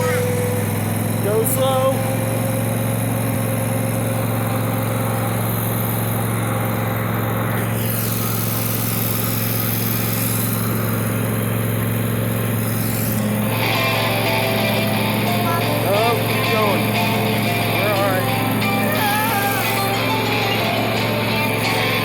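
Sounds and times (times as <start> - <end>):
riding mower engine running: 0.0 - 22.0.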